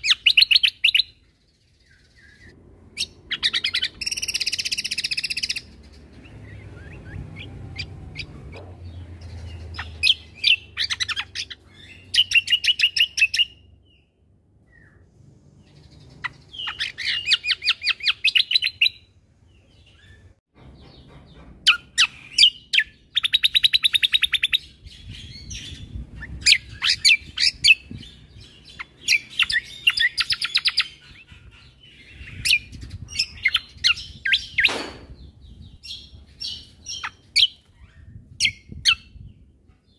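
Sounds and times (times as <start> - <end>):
bird singing trilled bursts: 0.0 - 39.4.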